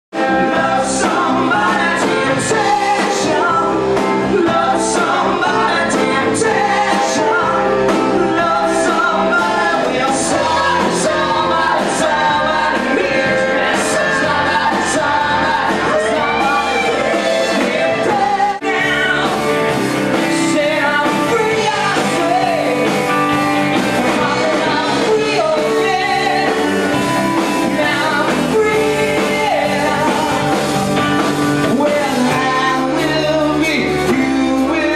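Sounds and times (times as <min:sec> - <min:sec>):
electric guitars: 0:00.1 - 0:34.9
man singing into microphone: 0:00.2 - 0:23.0, 0:24.1 - 0:30.6, 0:31.6 - 0:34.9
drum kit with cymbals: 0:00.2 - 0:34.9.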